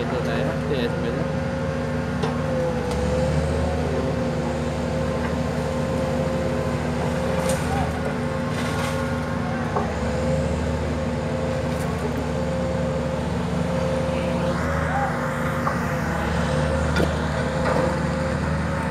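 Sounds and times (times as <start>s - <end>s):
pile driver engine droning: 0.0s - 18.9s.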